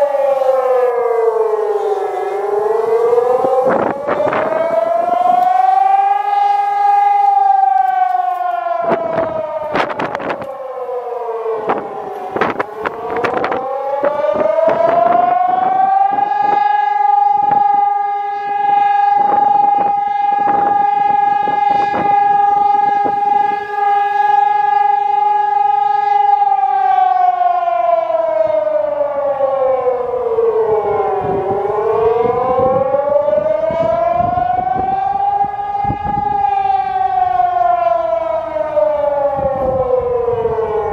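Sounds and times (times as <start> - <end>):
air raid siren wailing: 0.0 - 40.9.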